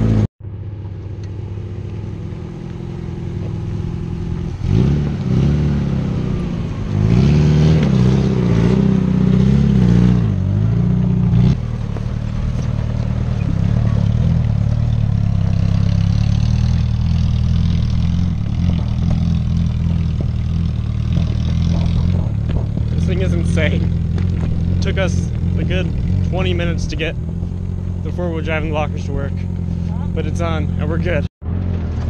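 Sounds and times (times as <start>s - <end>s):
car engine revving under load: 0.0s - 32.0s.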